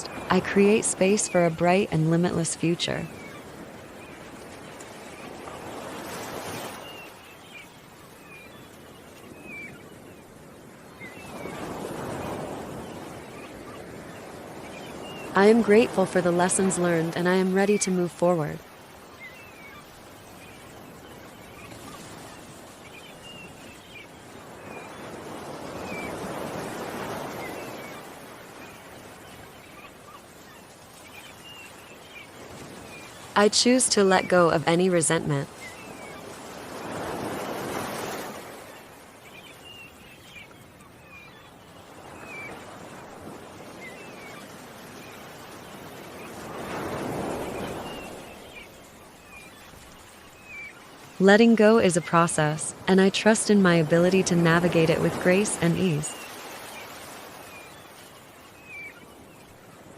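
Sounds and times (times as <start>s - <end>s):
birds chirping: 0.0s - 59.9s
ocean waves: 0.0s - 59.9s.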